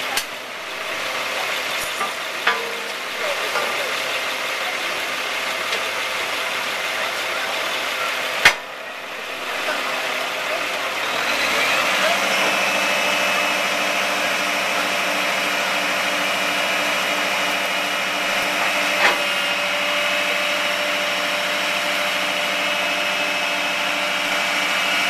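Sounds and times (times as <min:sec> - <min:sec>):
hydraulic system whine: 0:00.0 - 0:25.0.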